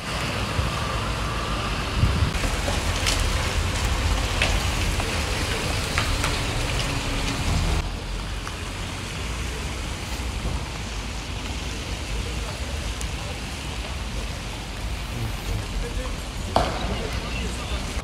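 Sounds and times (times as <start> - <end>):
rain on a wet street: 0.0 - 18.0.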